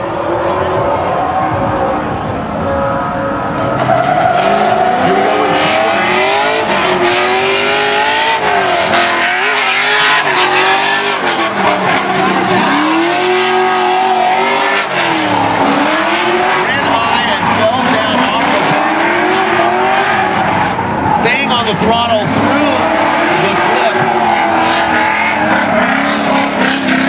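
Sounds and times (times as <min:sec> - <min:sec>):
car engine revving hard: 0:02.5 - 0:27.0.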